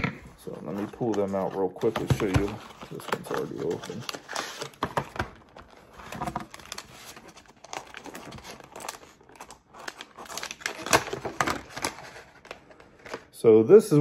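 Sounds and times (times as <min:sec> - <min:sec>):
plastic packaging crinkling: 0:00.4 - 0:13.4.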